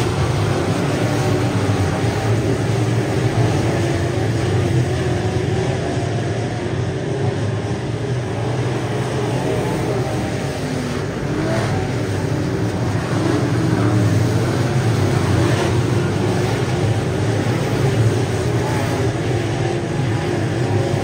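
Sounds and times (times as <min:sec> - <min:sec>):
race car engines passing: 0:00.0 - 0:21.0.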